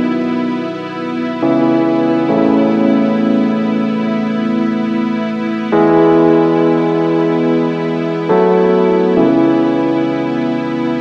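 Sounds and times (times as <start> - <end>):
soft instrumental music of held chords: 0.0 - 11.0.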